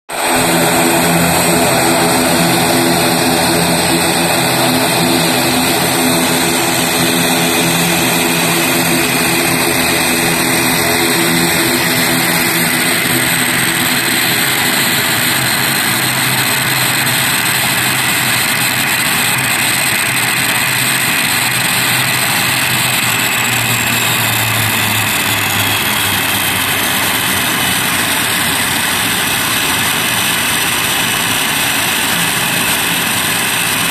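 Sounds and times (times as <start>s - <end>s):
propeller drone: 0.0s - 33.9s
turbine whine: 0.1s - 33.9s.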